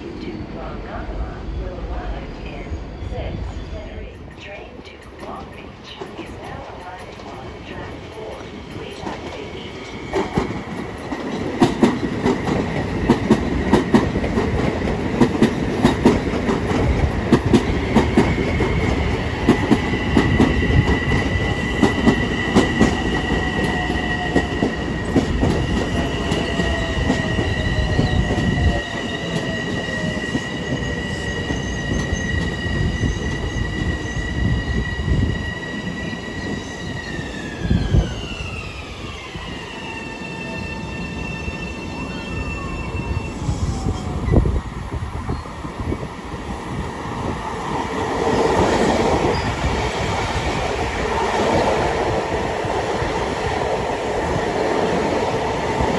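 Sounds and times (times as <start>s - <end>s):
train high whine: 0.0s - 55.9s.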